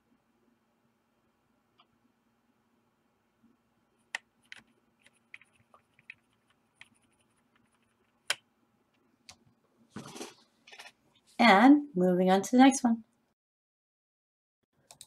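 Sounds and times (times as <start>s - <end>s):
faint steady hum: 0.0s - 13.4s.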